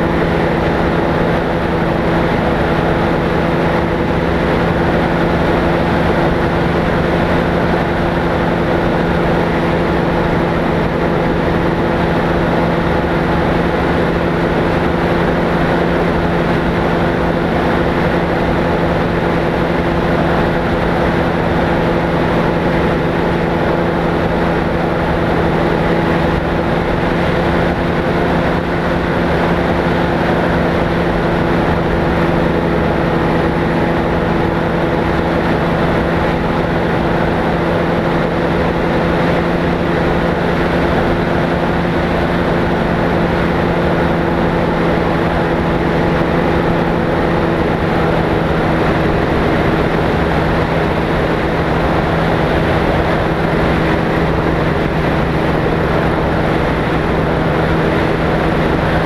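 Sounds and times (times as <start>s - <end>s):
engine and propeller droning: 0.0s - 59.0s
wind rushing over microphone: 0.0s - 59.0s.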